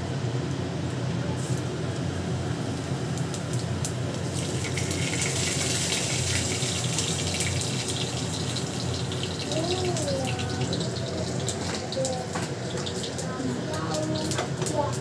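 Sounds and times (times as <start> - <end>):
seeds sizzling in hot oil: 1.4 - 15.0.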